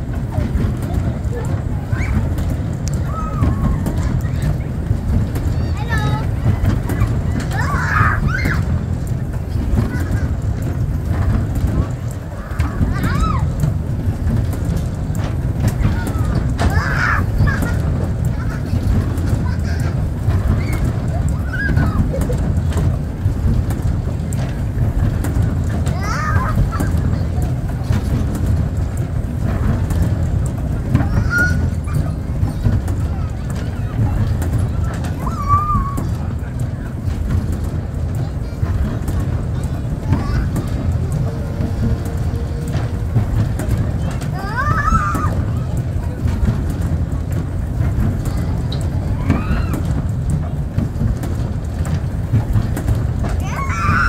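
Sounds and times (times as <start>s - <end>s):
kiddie ride rumble and rattle: 0.0s - 54.0s.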